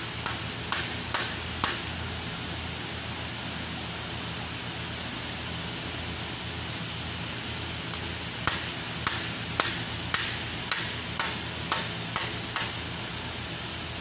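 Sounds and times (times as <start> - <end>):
fan hum: 0.0 - 14.0.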